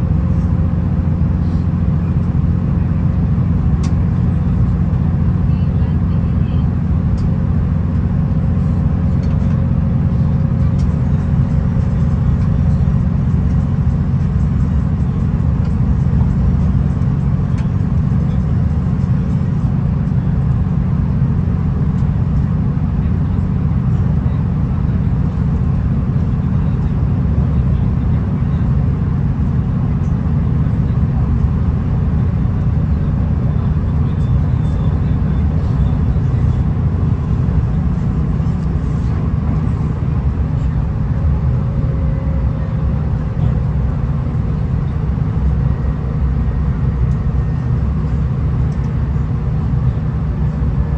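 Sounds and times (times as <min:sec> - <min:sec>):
railcar engine and wheels drone: 0:00.0 - 0:50.9.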